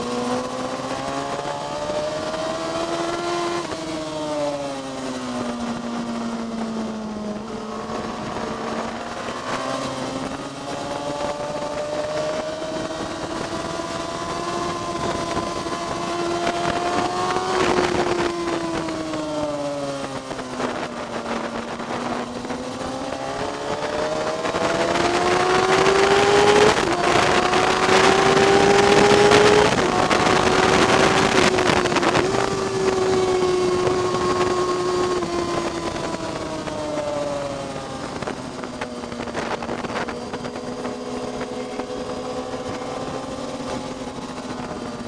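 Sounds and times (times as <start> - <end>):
motorcycle engine: 0.0 - 45.0
wind rush: 0.0 - 45.0.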